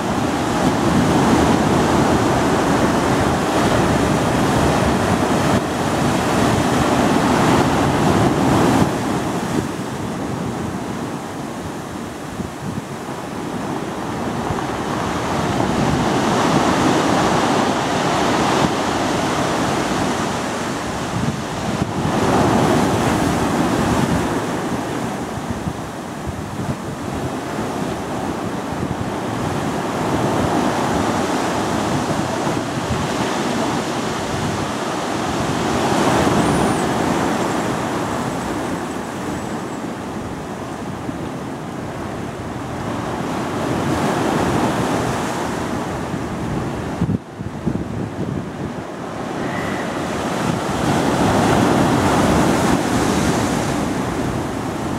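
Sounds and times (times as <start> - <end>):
ocean surf breaking: 0.0 - 54.9.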